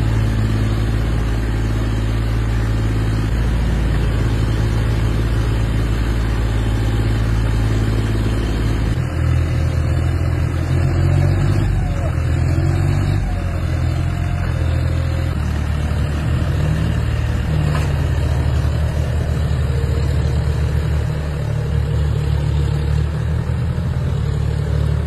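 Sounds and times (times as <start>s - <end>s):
tractor engine rumbling: 0.0s - 25.0s.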